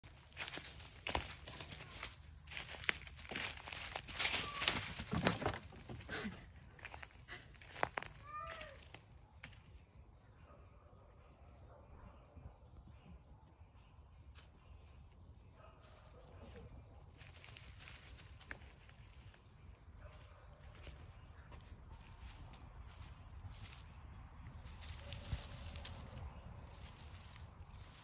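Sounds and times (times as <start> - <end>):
high-pitched insect trill: 0.0 - 28.0.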